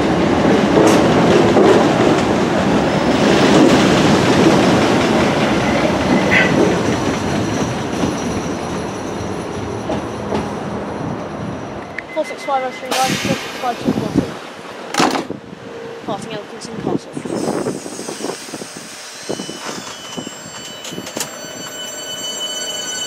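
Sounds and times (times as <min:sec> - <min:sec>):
train wheels rumbling and clattering: 0:00.0 - 0:15.4, 0:17.0 - 0:23.0.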